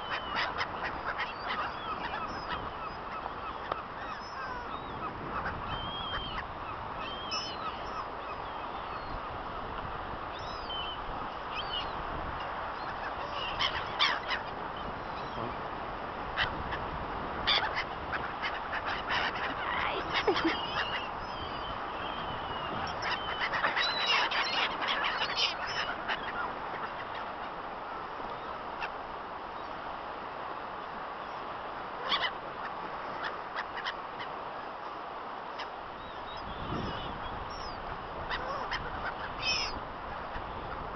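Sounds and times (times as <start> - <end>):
gulls calling: 0.0 - 9.7, 10.3 - 29.0, 31.2 - 34.5, 35.5 - 40.9.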